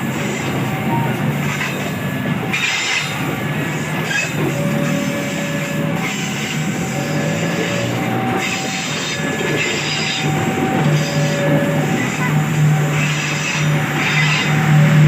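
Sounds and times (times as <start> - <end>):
train wheels rumbling: 0.0 - 15.0
wheels squealing: 0.0 - 15.0.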